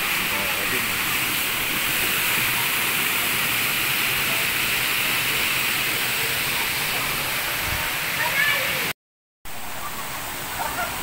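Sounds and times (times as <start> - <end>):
water cascading into pool: 0.0 - 11.0.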